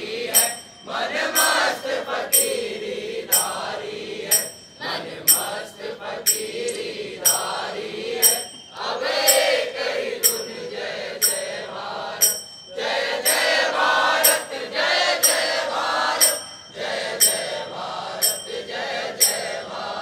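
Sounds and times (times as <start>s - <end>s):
men singing in unison: 0.0s - 20.0s
metallic clink: 0.3s - 2.7s, 3.3s - 3.7s, 4.3s - 11.6s, 12.2s - 13.6s, 14.2s - 15.6s, 16.2s - 19.7s.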